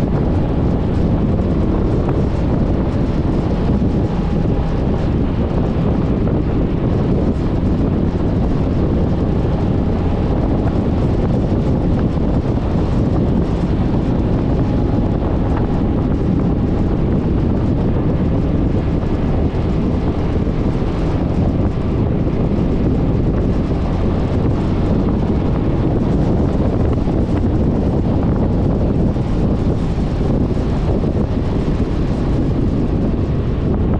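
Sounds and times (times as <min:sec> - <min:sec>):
road noise: 0:00.0 - 0:33.9
wind rumble on microphone: 0:00.0 - 0:33.9.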